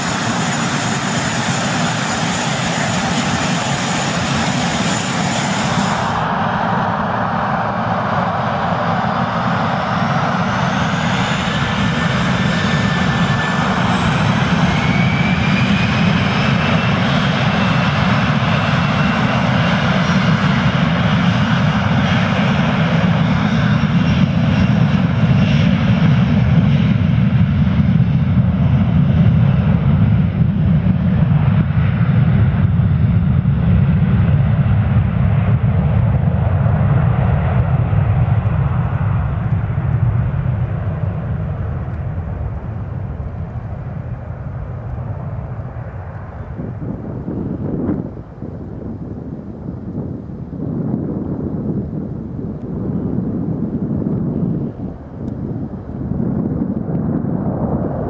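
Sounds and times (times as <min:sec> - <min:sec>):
deep jet engine rumble: 0:00.0 - 0:58.0
jet engine fan whine: 0:00.0 - 0:58.0.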